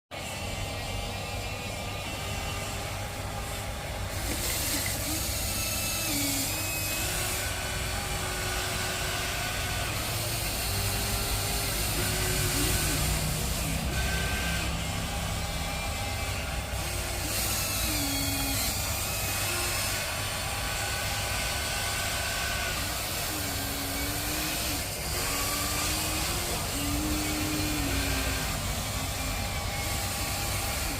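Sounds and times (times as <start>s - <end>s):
electric motors whining: 0.2s - 30.9s.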